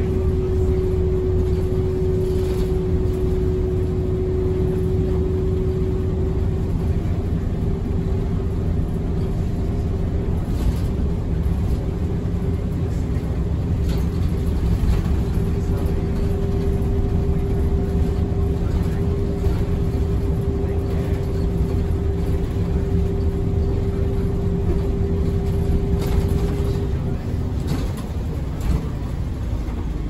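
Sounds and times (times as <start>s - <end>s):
bus engine rumble: 0.0s - 30.0s
steady whine: 0.0s - 30.0s.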